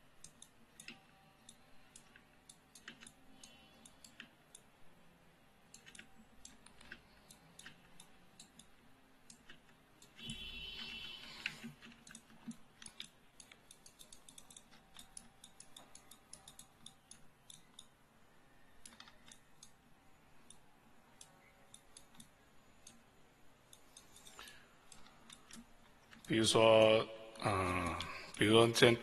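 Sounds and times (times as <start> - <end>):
computer mouse clicks: 0.1 - 4.7, 5.6 - 18.0, 18.6 - 26.9.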